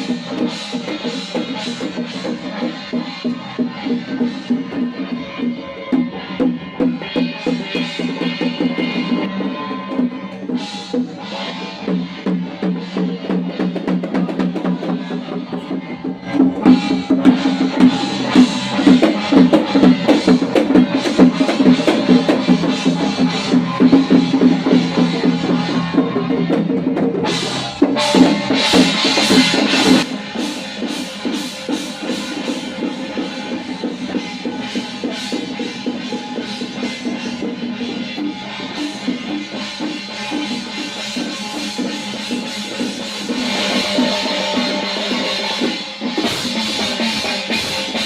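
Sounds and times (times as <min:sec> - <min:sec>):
music with rapid drumming: 0:00.0 - 0:48.0.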